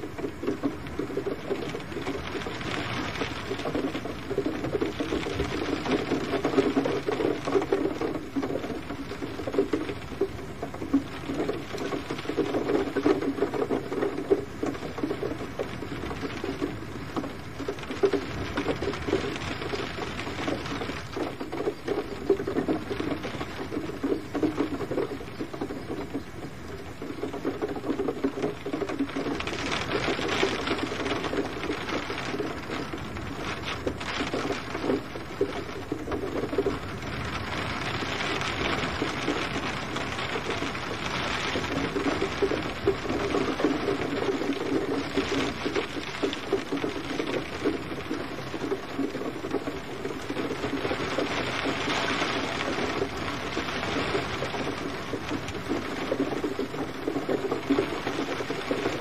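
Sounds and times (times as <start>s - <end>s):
gentle rain pattering: 0.0s - 59.0s.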